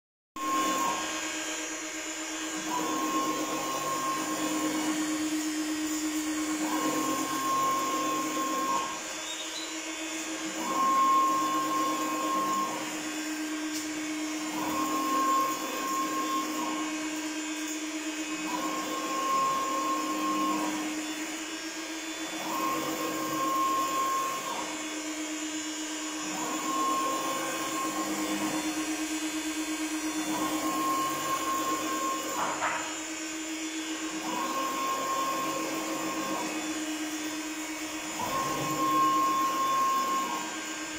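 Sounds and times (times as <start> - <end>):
servo motor whining: 2.2 - 40.9.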